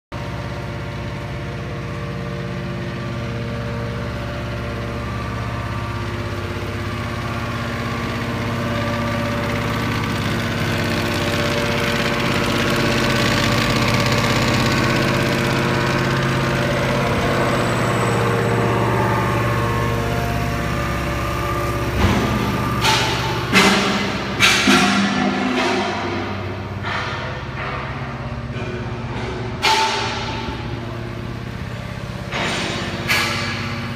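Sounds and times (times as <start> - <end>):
baler motor and pump humming: 0.2 - 33.9.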